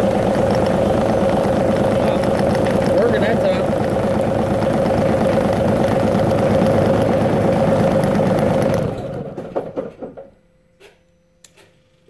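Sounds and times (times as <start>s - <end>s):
diesel engine cranking: 0.0s - 10.3s.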